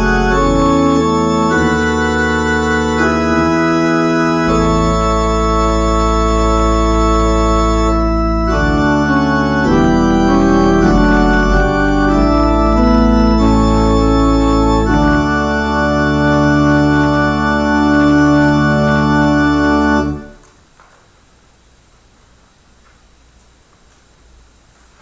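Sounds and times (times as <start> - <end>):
organ playing slow chords: 0.0 - 20.4.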